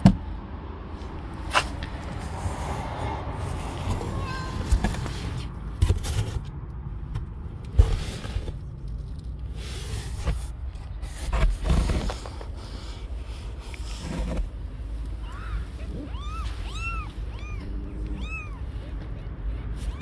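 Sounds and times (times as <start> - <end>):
handling scrapes and rustles: 0.9 - 6.6, 7.6 - 20.0.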